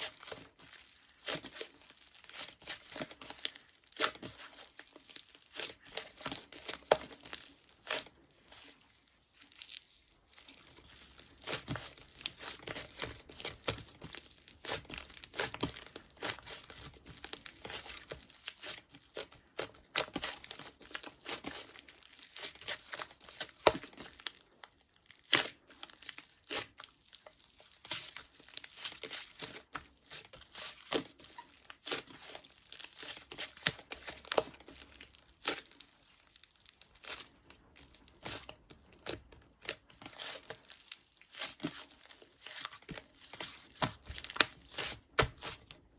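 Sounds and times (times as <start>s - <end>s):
wrapping material crinkling: 0.0s - 45.9s.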